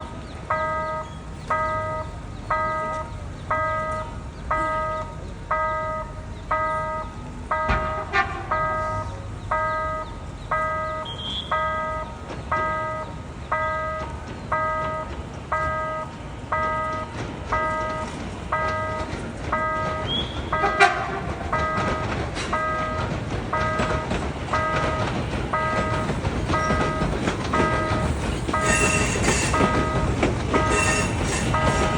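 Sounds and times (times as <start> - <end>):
level crossing warning bell: 0.4 - 31.9.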